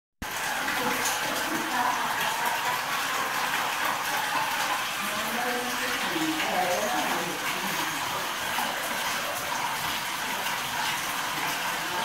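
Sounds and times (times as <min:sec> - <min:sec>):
water pouring into a bath: 0:00.2 - 0:12.0.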